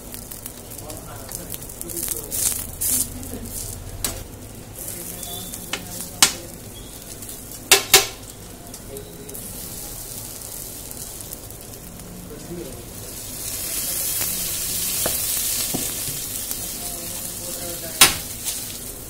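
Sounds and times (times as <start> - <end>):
bread sizzling on a griddle: 0.0 - 19.0.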